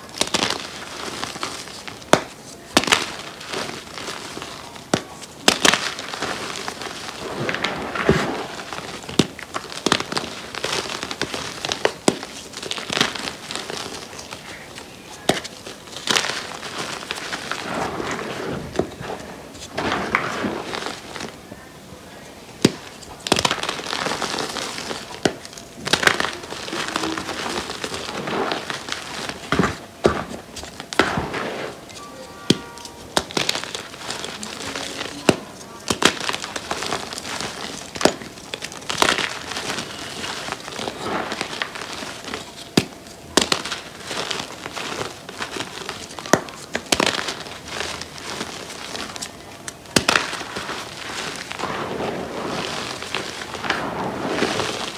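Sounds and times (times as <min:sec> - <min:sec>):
chalk crunching and rustling: 0:00.0 - 0:21.5, 0:22.2 - 0:54.9.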